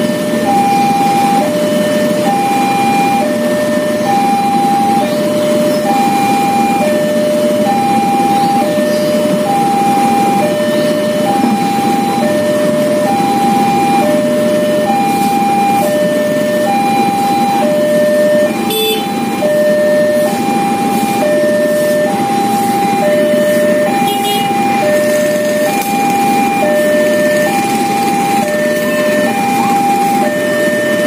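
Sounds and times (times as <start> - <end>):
engines running: 0.0 - 31.0
two-tone level crossing alarm: 0.0 - 31.0.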